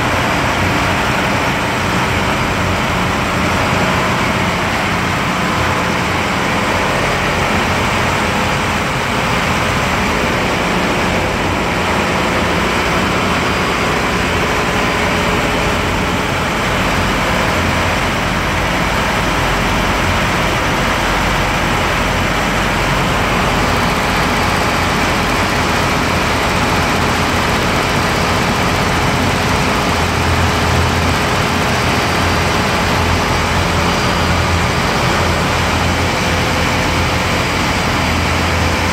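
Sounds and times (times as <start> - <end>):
ship engines droning: 0.0 - 38.9.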